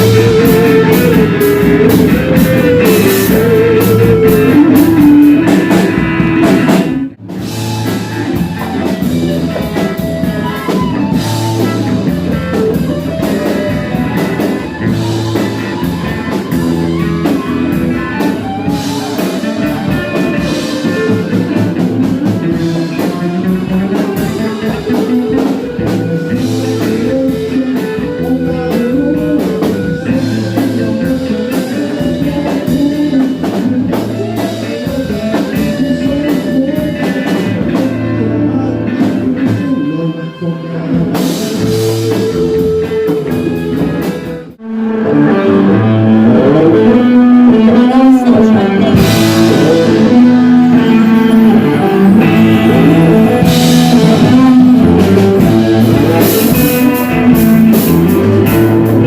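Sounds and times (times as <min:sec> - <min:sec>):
rock music with guitar and drums: 0:00.0 - 0:59.0.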